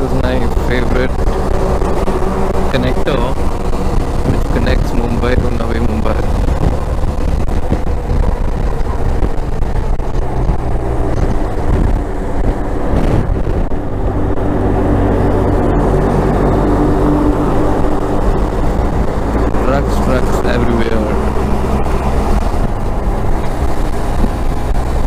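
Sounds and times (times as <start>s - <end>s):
motorcycle engine droning: 0.0s - 25.0s
wind rumble on microphone: 0.0s - 25.0s.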